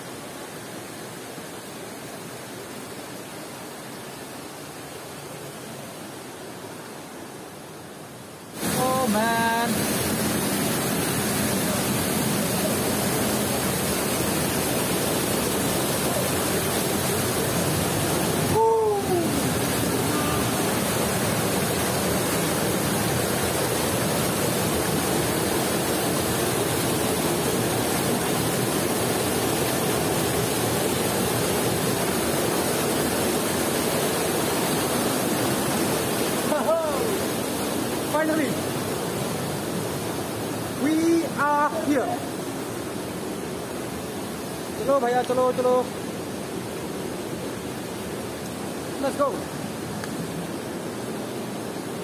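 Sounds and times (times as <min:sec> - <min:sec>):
stream rushing over rock: 0:00.0 - 0:52.0.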